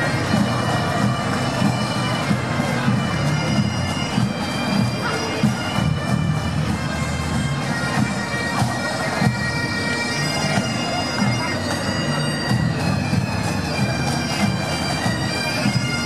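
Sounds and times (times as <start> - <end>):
bagpipes playing with drones: 0.0 - 16.0.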